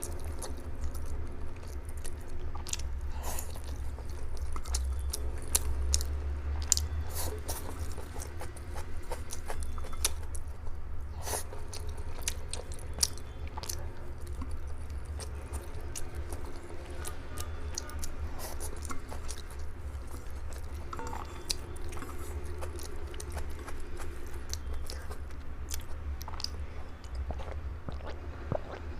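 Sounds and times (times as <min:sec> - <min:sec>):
person chewing noodles: 0:00.0 - 0:28.9
steady low hum: 0:00.0 - 0:28.9.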